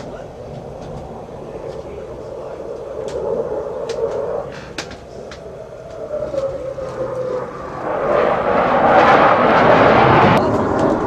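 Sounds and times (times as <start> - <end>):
engine drone: 0.0 - 11.0
loud rushing noise: 0.0 - 11.0.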